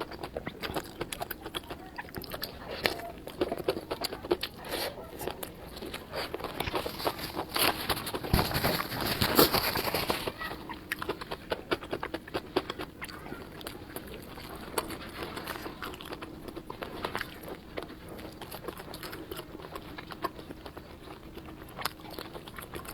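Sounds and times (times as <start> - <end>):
chewing crunchy fried food: 0.0 - 22.9.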